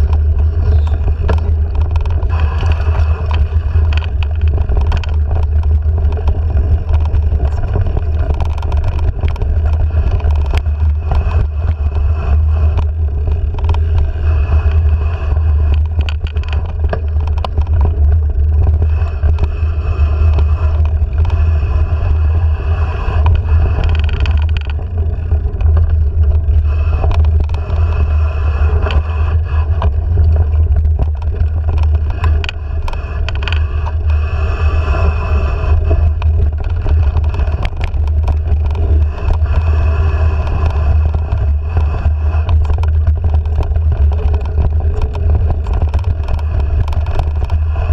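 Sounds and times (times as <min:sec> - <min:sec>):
bike clicks and rattles: 0:00.0 - 0:47.9
bike riding rumble: 0:00.0 - 0:47.9.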